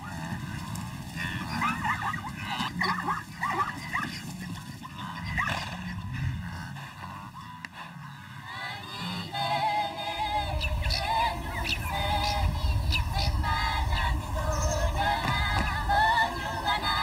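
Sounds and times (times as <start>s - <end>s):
zebras yelping: 0.0s - 17.0s.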